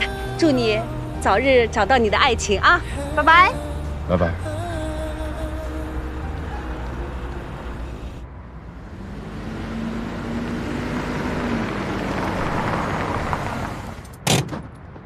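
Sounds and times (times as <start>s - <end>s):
car engine approaching: 0.0s - 14.2s.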